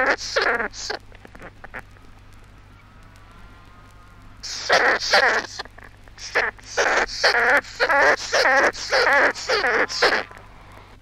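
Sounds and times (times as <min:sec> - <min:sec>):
glider calling short wavering calls: 0:00.0 - 0:02.0, 0:02.7 - 0:11.0.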